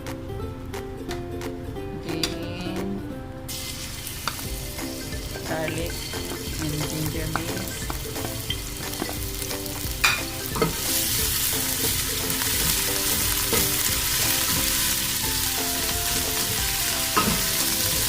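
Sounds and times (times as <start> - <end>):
garlic sizzling in hot oil: 3.5 - 18.0.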